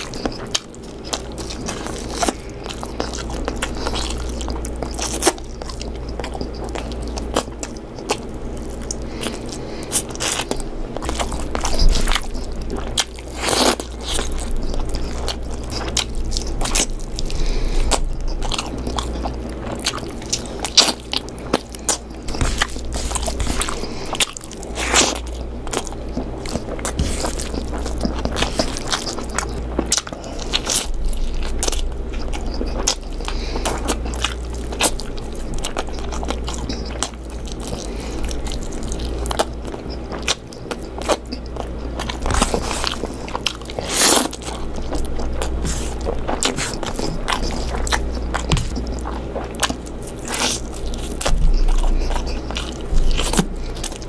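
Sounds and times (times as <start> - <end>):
close chewing and biting: 0.0 - 54.0
steady low hum: 0.0 - 54.0.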